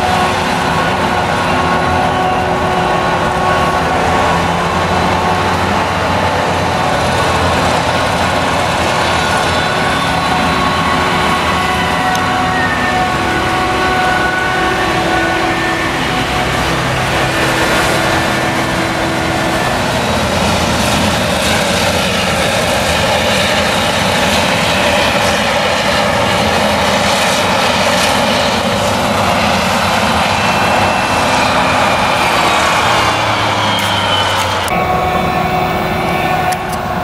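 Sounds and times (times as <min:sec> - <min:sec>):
crop blower rushing: 0:00.0 - 0:37.0
forage harvester engine: 0:00.0 - 0:37.0.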